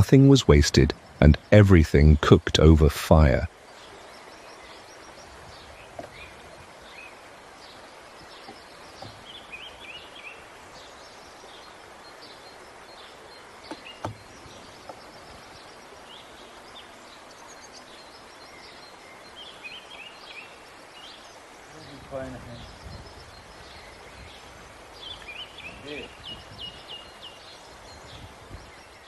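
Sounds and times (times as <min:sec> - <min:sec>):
small birds chirping: 0:00.0 - 0:29.0
steady background hiss: 0:00.0 - 0:29.0.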